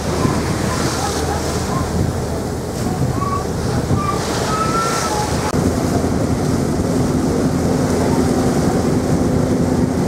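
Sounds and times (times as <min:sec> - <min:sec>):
ferry engines rumbling: 0:00.0 - 0:10.0
water rushing along hull: 0:00.0 - 0:10.0.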